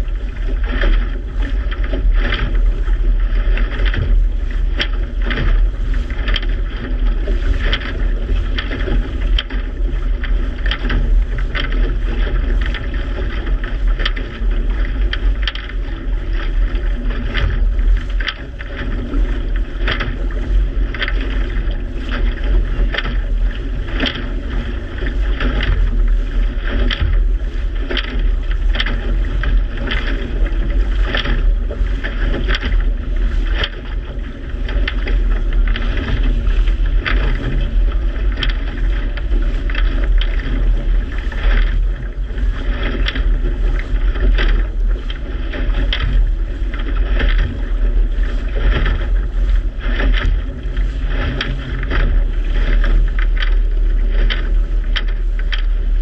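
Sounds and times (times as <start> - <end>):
boat engine rumble: 0.0 - 56.0
water slapping against boat hull: 0.0 - 56.0
wind buffeting microphone: 0.0 - 56.0.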